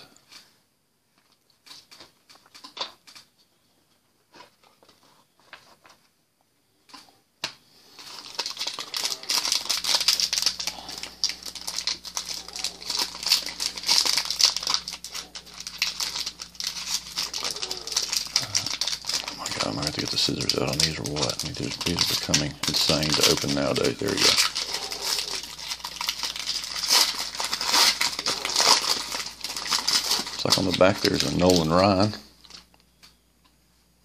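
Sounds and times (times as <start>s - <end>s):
foil wrapper crinkling: 1.2s - 3.4s, 7.7s - 33.2s.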